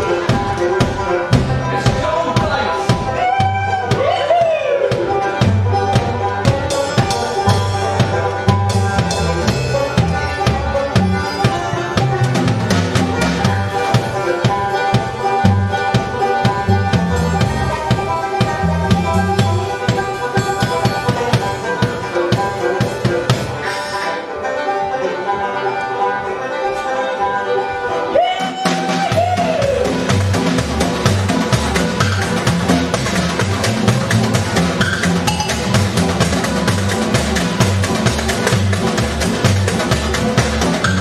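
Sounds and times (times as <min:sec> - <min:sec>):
drum strokes: 0:00.0 - 0:24.1, 0:28.5 - 0:41.0
double bass line: 0:00.0 - 0:41.0
skiffle band playing: 0:00.0 - 0:41.0.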